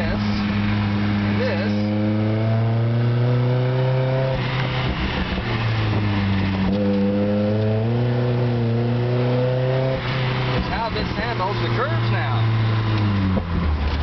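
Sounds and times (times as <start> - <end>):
pickup engine revving: 0.0 - 14.0.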